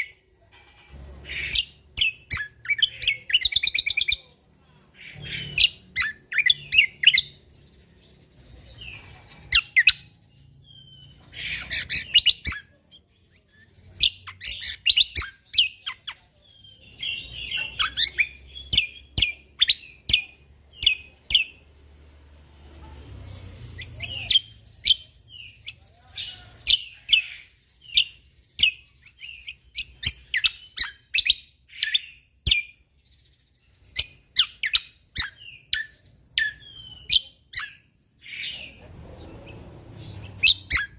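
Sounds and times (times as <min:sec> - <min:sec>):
songbird chirping and whistling: 0:00.0 - 0:00.2, 0:01.2 - 0:04.3, 0:05.0 - 0:21.7, 0:23.4 - 0:40.9.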